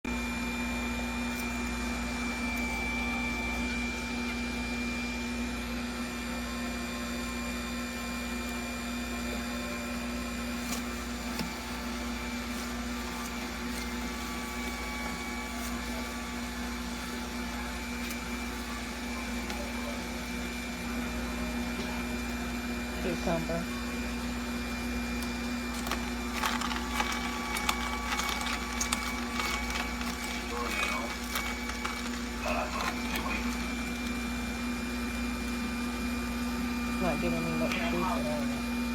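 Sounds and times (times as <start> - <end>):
electric juicer motor humming: 0.0 - 38.9.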